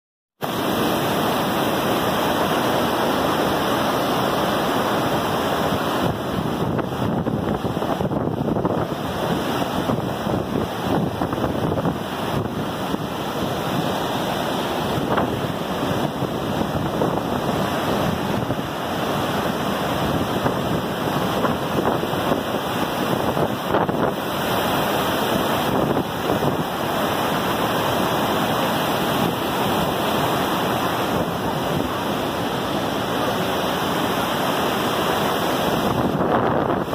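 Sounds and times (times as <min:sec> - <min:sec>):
rapids and waterfalls roaring: 0:00.4 - 0:36.9.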